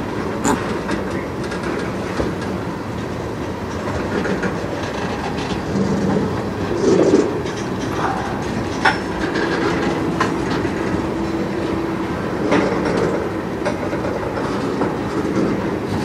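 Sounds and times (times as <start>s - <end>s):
train wheels rumbling on rail: 0.0s - 16.0s
wheels clacking over rail joints: 0.0s - 16.0s.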